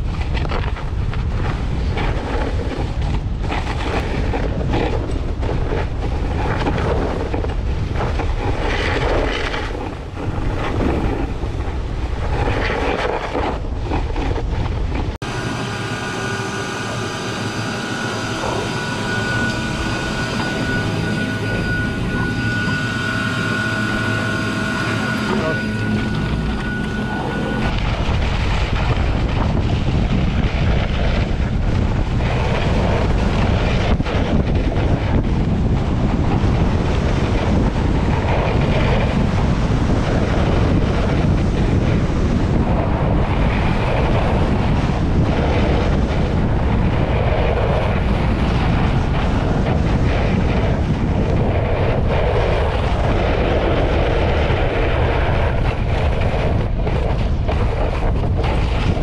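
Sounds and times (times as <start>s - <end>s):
skis scraping over snow: 0.0s - 15.4s, 24.9s - 59.0s
wind buffeting microphone: 0.0s - 59.0s.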